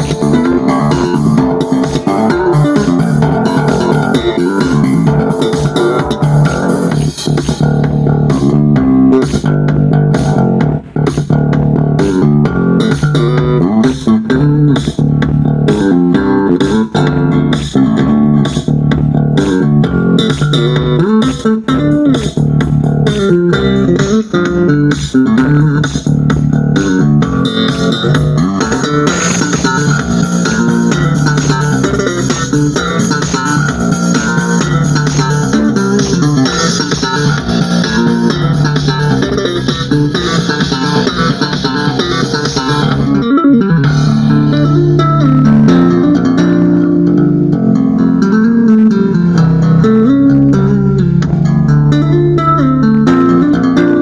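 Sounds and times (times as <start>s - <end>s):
bass-heavy music with guitars: 0.0s - 54.0s.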